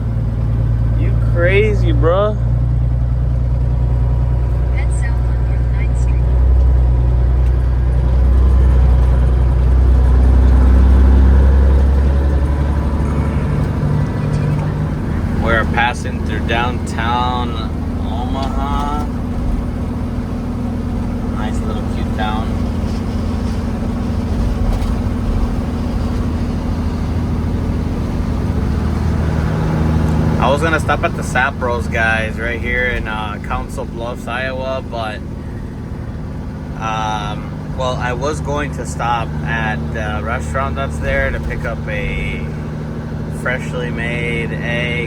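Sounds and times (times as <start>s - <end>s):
road noise: 0.0s - 45.0s
truck diesel engine driving: 0.0s - 45.0s.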